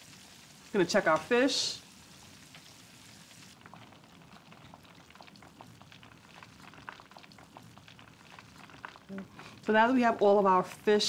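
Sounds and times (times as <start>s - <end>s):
fish deep-frying in oil: 0.0s - 11.0s.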